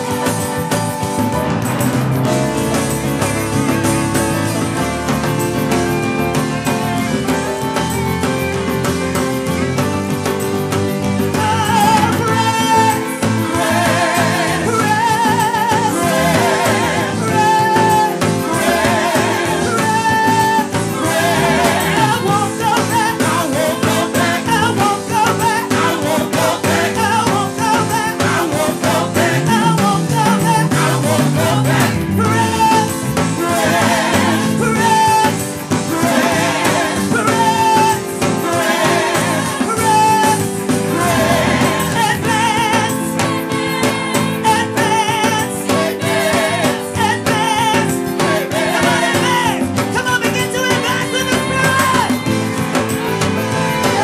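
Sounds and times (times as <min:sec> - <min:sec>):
bass line stepping down: 0:00.0 - 0:25.1, 0:25.8 - 0:54.0
gospel voices singing over band: 0:00.0 - 0:54.0.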